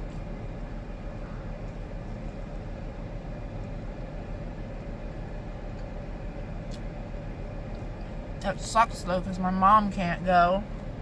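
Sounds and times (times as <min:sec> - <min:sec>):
vehicle idling hum: 0:00.0 - 0:11.0.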